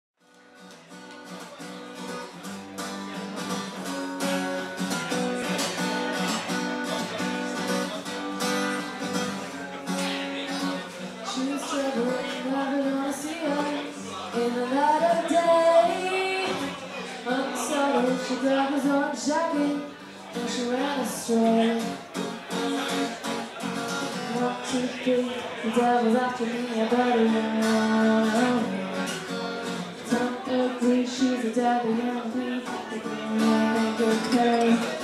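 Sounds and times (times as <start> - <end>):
acoustic guitar strumming chords: 0.2 - 35.0.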